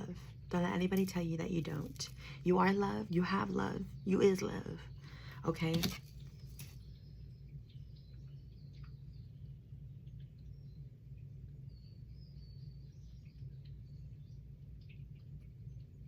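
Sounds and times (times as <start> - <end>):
faint bird chirps: 0.0 - 16.0
low hum: 0.0 - 16.0.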